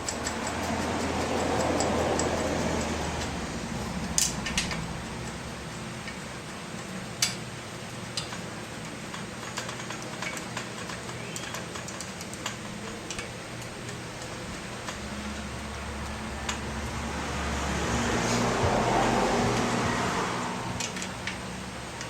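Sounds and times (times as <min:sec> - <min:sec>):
metal parts clicking and tapping: 0:00.0 - 0:17.0, 0:20.8 - 0:22.0
steady low hum: 0:00.0 - 0:22.0.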